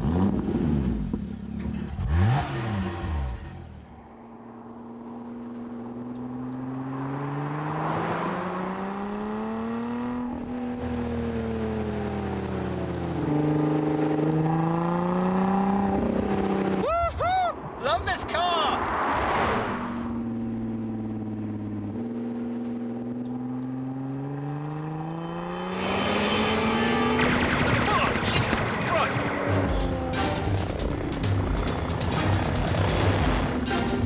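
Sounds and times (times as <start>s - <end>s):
car engine revving: 0.0s - 16.9s, 18.7s - 34.0s.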